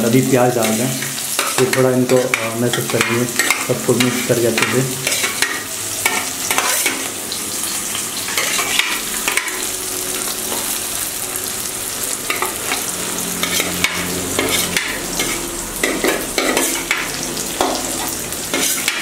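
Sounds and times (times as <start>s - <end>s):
onions sizzling in hot oil: 0.0s - 19.0s
spoon scraping a pan: 0.5s - 10.8s, 12.1s - 19.0s.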